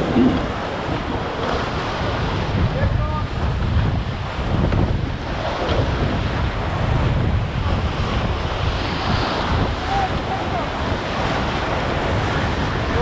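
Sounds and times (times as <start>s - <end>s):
water rushing along a hull: 0.0s - 13.0s
wind buffeting microphone: 0.0s - 13.0s.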